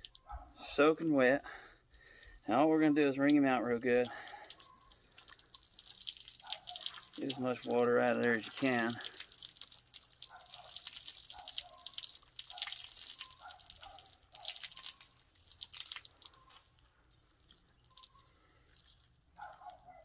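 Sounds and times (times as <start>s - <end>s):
water dripping and splashing: 0.0s - 20.0s.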